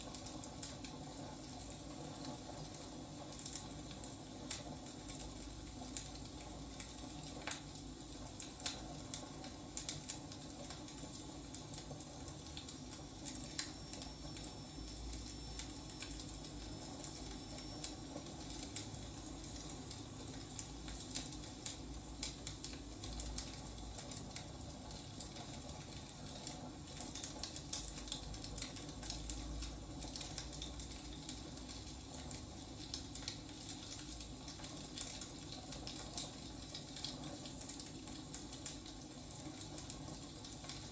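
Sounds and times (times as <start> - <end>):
low rumble of flames: 0.0 - 40.9.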